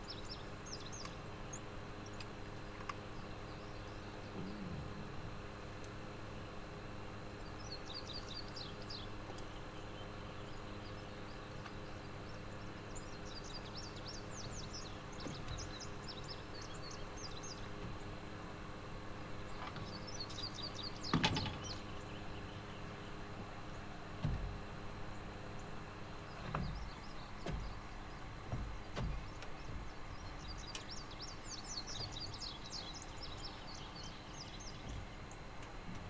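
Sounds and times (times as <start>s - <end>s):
birds chirping: 0.0s - 36.0s
steady low hum: 0.0s - 36.0s.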